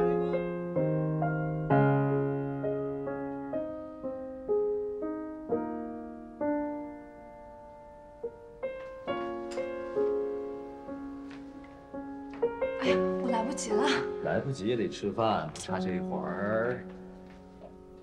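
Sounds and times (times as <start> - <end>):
slow gentle solo piano: 0.0 - 18.0.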